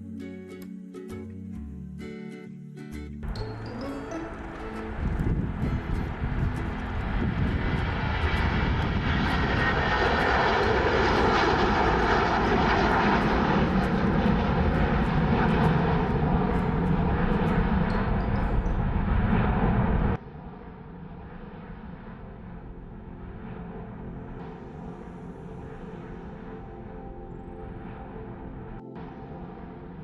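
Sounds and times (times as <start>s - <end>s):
jet engines roaring: 4.1s - 30.0s.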